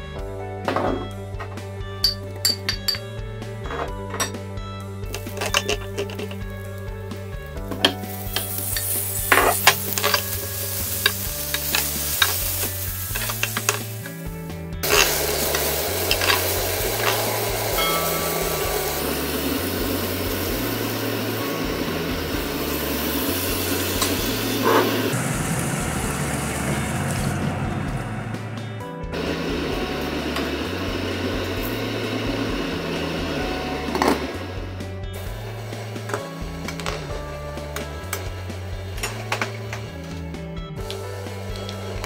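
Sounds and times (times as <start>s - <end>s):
chicken sizzling in a pan: 5.1s - 27.9s, 29.2s - 40.1s, 40.8s - 42.0s.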